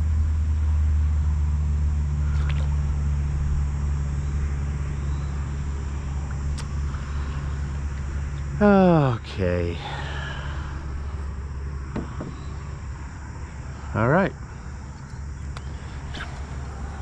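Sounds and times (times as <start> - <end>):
low rumbling hum: 0.0 - 17.0.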